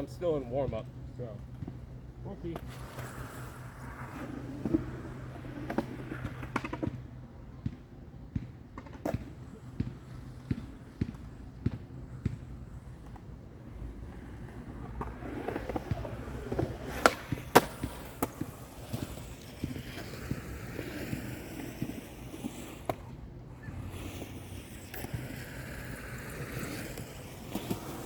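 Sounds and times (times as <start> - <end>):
skateboard wheels rolling on concrete: 0.0 - 28.0
skateboard clacks: 2.6 - 28.0.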